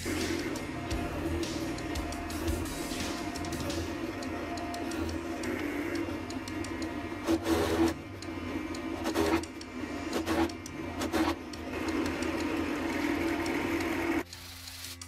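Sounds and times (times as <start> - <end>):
drill press motor running: 0.0 - 14.6.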